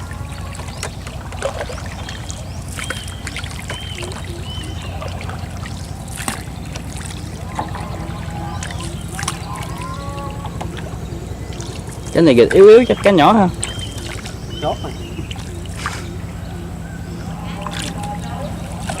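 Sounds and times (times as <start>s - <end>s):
small boat motor running: 0.0s - 19.0s.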